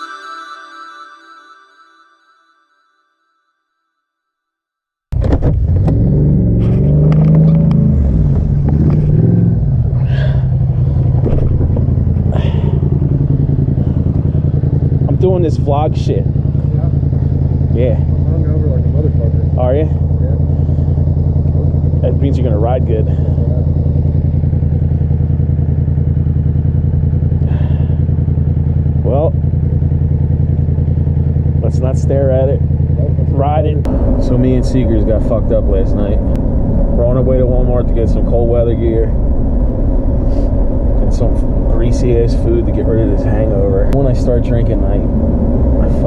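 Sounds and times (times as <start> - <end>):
road noise: 5.2 - 46.0
vehicle engine running: 5.2 - 46.0.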